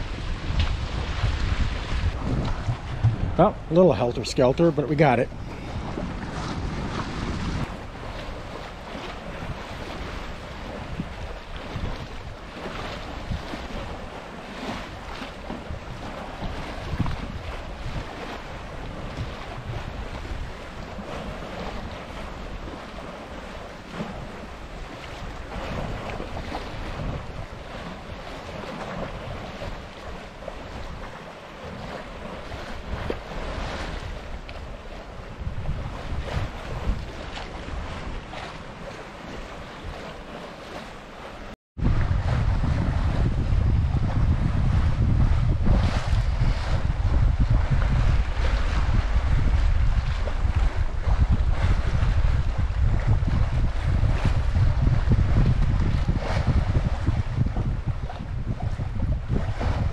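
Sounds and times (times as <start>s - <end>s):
water splashing along a boat hull: 0.0s - 59.9s
wind buffeting the microphone: 0.0s - 59.9s.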